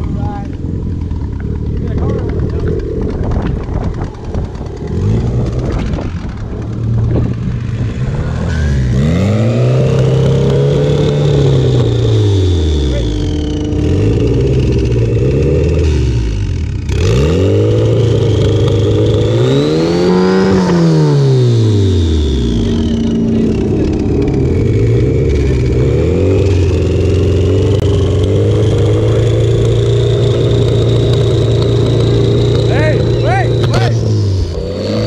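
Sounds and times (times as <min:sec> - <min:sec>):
car engines idling and revving: 0:00.0 - 0:35.0
high whine: 0:00.0 - 0:35.0.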